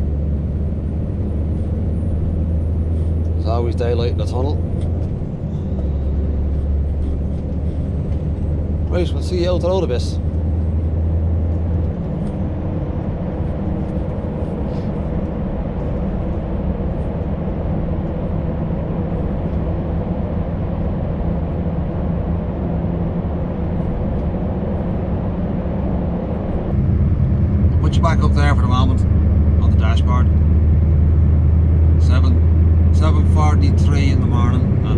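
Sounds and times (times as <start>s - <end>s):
lorry engine drone: 0.0s - 34.9s
road noise: 0.0s - 34.9s.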